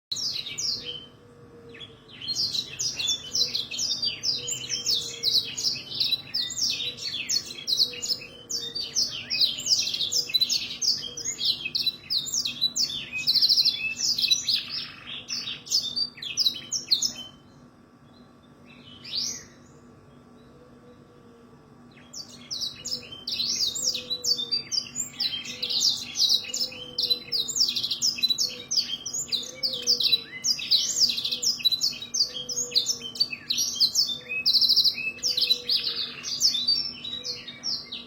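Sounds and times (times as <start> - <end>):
canary singing with trills: 0.1 - 17.6, 21.9 - 38.0.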